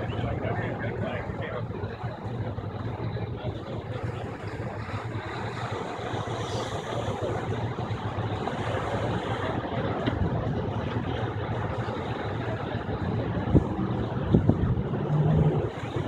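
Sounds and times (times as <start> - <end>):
surf washing over rocks: 0.0 - 16.0
wind on microphone: 0.0 - 16.0.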